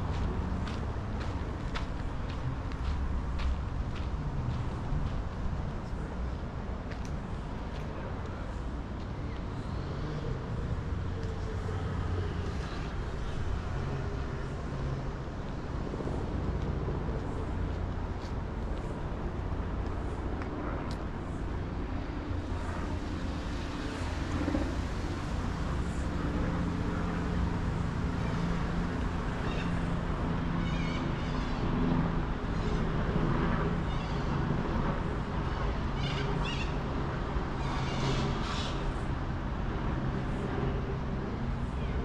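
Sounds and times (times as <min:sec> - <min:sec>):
road traffic hum: 0:00.0 - 0:42.0.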